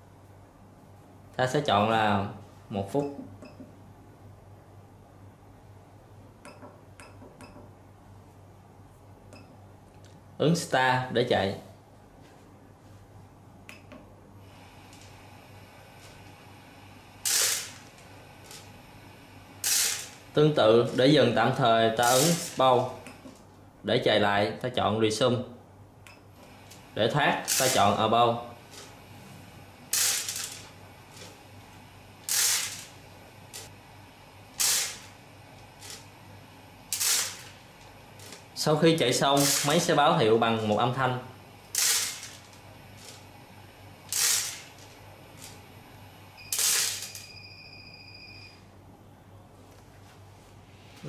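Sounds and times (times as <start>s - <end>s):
quiet running hiss: 0.0s - 51.0s.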